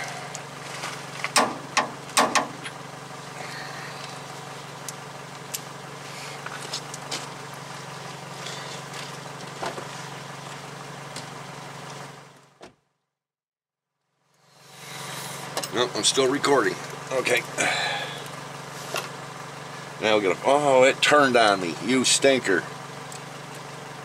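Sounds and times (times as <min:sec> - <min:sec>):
steady low hum: 0:00.0 - 0:12.5, 0:14.3 - 0:24.0.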